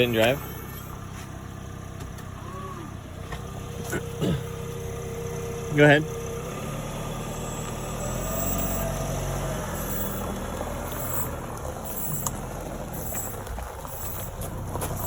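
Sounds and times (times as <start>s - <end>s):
car driving low drone: 0.0s - 15.0s.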